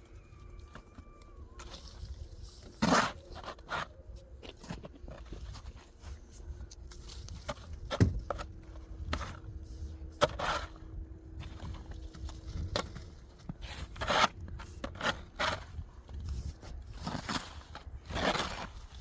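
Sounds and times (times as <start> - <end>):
sharp scrapes and knocks: 1.6 - 19.0.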